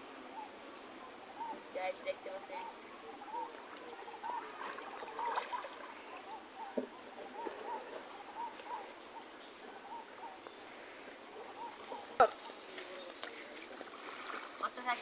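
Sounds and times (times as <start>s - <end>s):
faint water sounds: 0.0s - 15.0s.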